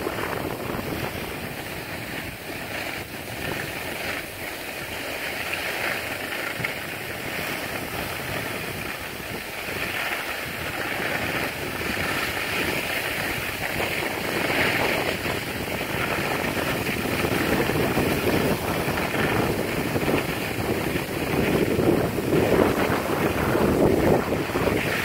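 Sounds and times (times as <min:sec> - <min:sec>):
skis scraping over snow: 0:00.0 - 0:25.0
wind on microphone: 0:00.0 - 0:25.0.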